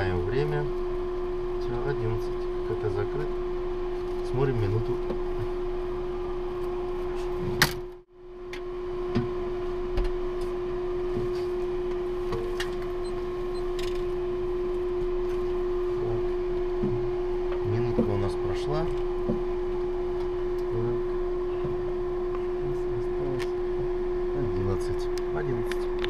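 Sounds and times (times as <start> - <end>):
fans and equipment humming: 0.0 - 26.0.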